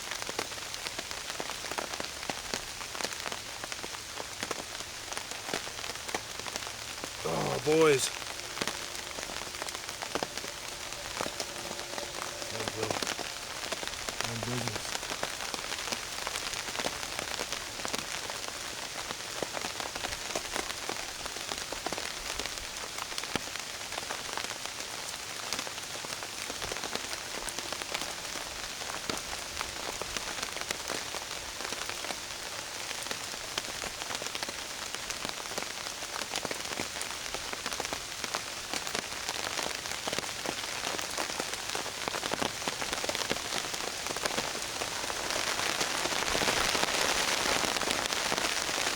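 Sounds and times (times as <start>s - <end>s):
rain falling on a tarp: 0.0s - 48.9s.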